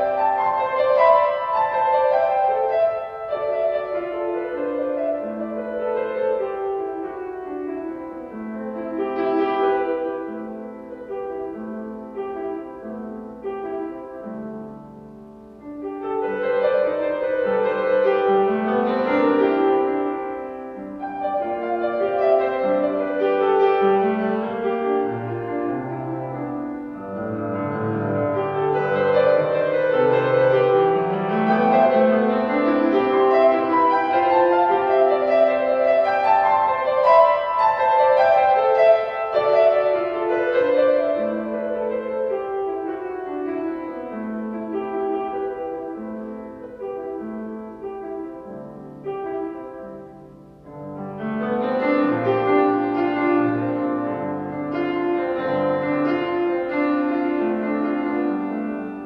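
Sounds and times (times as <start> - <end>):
grand piano playing: 0.0 - 59.0.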